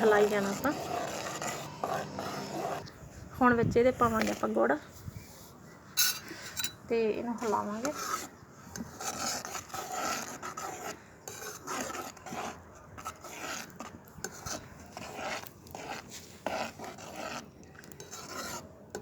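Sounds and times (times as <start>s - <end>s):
metal spoon scraping a pan: 0.0s - 3.0s, 6.0s - 19.0s.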